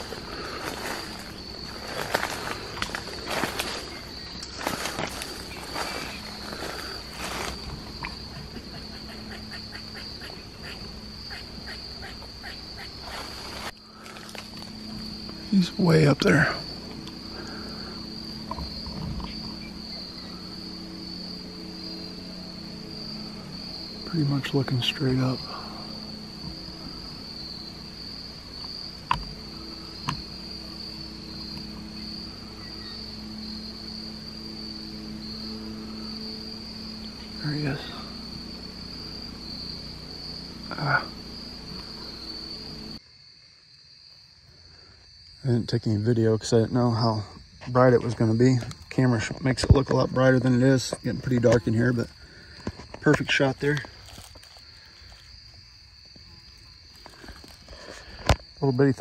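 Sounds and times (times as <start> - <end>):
crickets droning: 0.0 - 59.0
short insect calls: 0.0 - 59.0.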